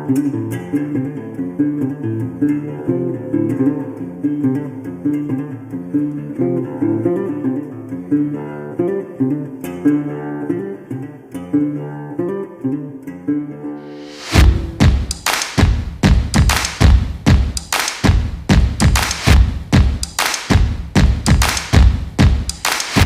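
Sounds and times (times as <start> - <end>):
plucked guitar pattern: 0.0 - 23.0.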